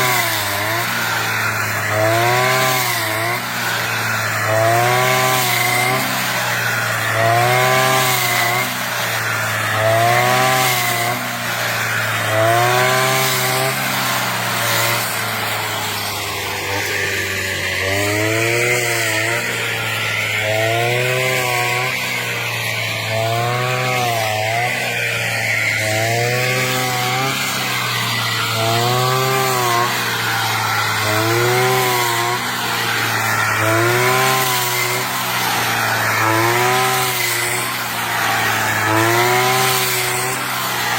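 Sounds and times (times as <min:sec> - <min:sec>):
brush cutter engine cutting: 0:00.0 - 0:40.9.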